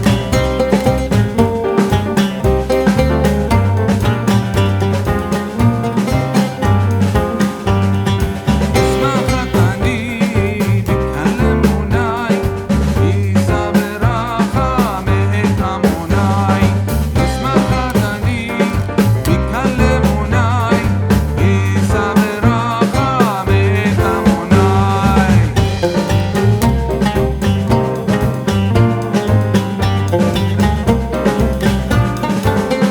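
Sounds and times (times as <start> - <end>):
country music with plucked strings: 0.0 - 32.9.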